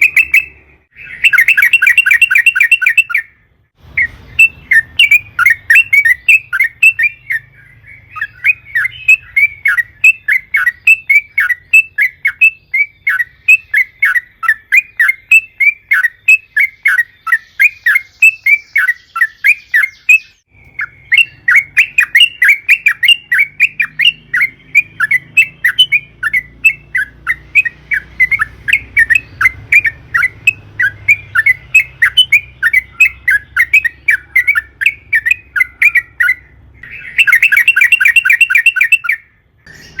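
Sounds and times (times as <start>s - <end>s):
bird chattering song: 0.0s - 40.0s.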